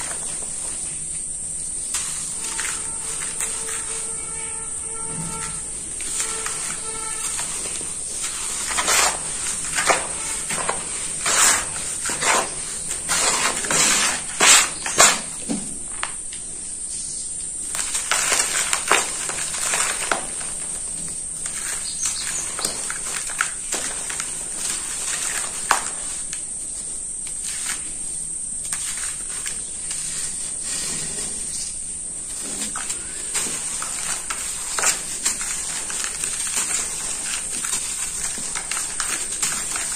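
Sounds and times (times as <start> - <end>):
hands crumbling dry cement powder: 0.0 - 4.4, 5.3 - 16.2, 17.6 - 39.9.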